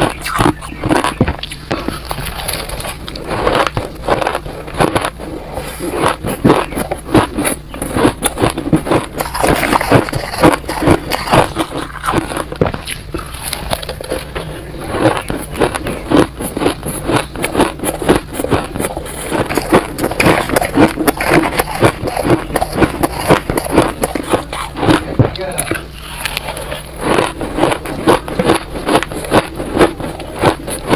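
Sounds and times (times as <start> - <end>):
chewing crunchy ice: 0.0 - 30.9.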